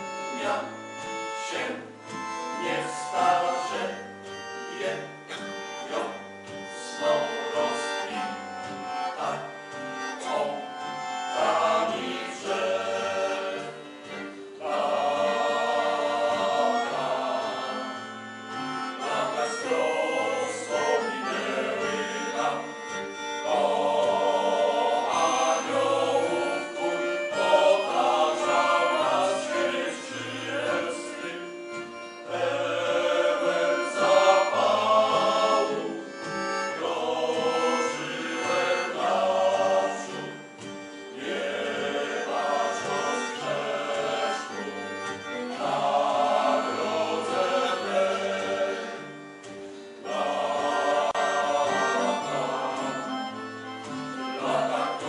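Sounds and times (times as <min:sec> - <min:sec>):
male choir singing: 0:00.0 - 0:49.2, 0:50.0 - 0:55.0
accordion: 0:00.0 - 0:55.0
acoustic guitar: 0:00.0 - 0:55.0.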